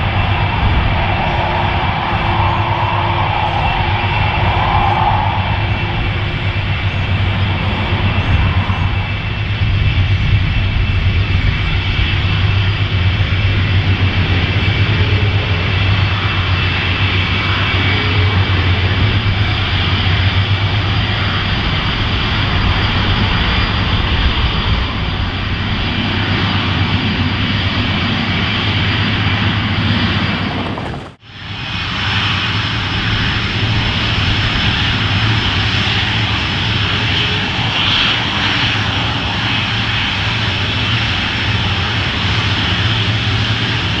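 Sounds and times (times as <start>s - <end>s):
jet engines rumbling with fan whine: 0.0s - 44.0s.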